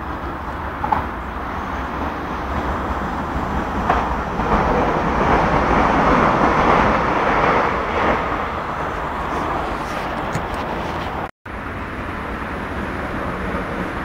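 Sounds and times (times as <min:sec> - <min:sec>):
distant train rumbling: 0:00.0 - 0:14.0.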